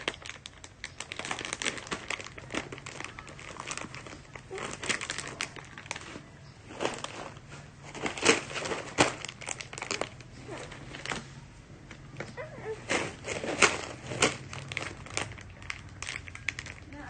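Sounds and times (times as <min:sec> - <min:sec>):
plastic snack packet crinkling: 0:00.0 - 0:17.0.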